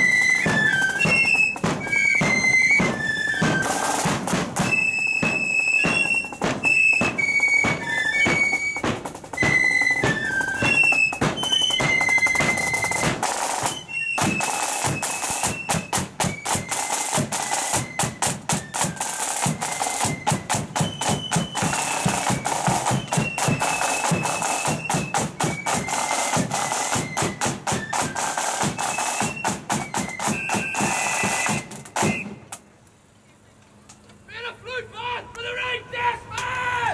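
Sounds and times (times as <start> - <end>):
side drums: 0.0 - 32.5
flutes playing a melody: 0.0 - 32.6.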